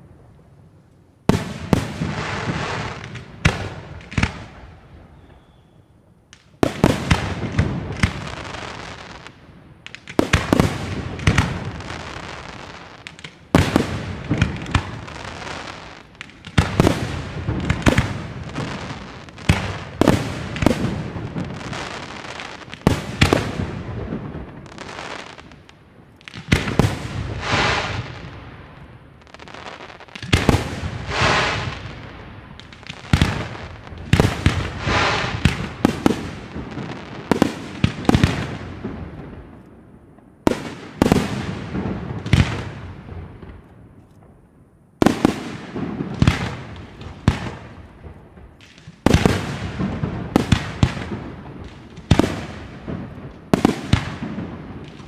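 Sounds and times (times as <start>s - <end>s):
fireworks bursting in sharp bangs: 1.2s - 5.6s, 6.4s - 39.6s, 40.4s - 43.6s, 45.0s - 55.0s.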